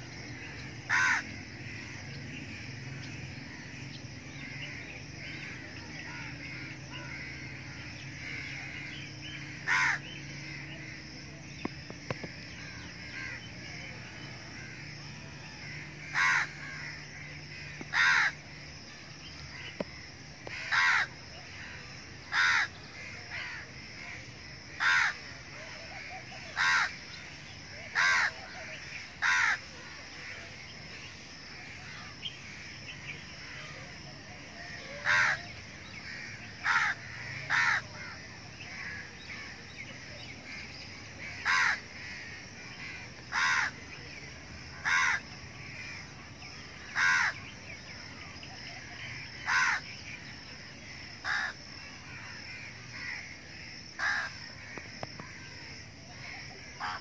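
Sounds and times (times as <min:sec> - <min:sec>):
bird calling: 0:00.0 - 0:24.2, 0:24.8 - 0:33.9, 0:34.5 - 0:57.0.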